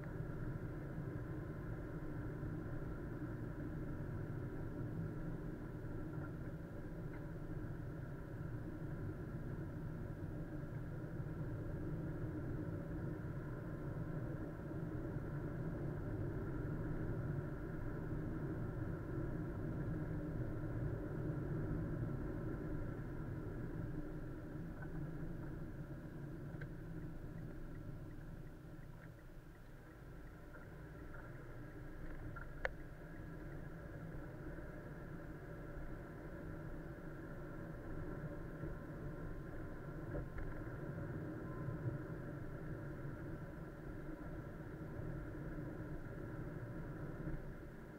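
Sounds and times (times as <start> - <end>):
car engine and road noise: 0.0 - 47.9.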